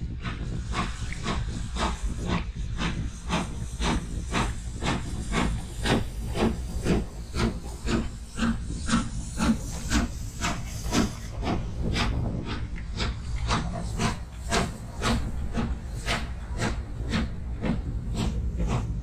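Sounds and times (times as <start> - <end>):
steam locomotive exhaust chuffing: 0.0 - 19.0.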